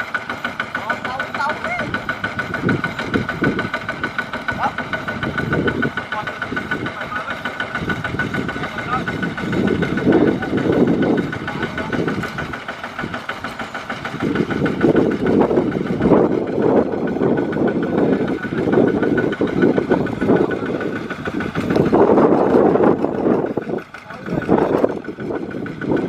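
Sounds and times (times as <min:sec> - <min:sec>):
diesel engine chugging: 0:00.0 - 0:26.0.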